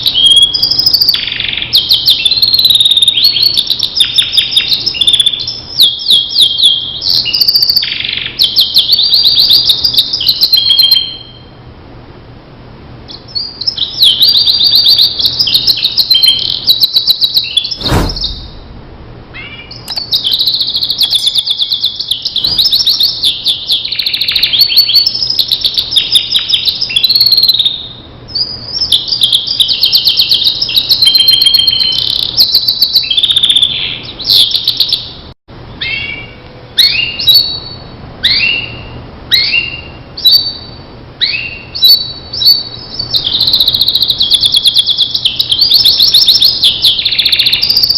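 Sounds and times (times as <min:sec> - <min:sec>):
canary singing: 0:00.0 - 0:11.6, 0:13.1 - 0:18.3, 0:19.3 - 0:35.2, 0:35.8 - 0:47.9.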